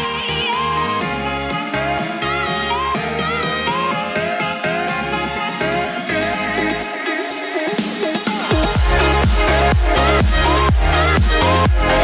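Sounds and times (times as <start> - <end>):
bass line: 0.0 - 6.9, 8.5 - 12.0.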